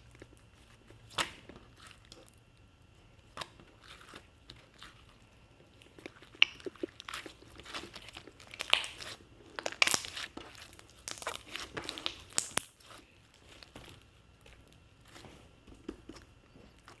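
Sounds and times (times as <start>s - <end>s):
crunching and crinkling crackles: 0.0s - 17.0s.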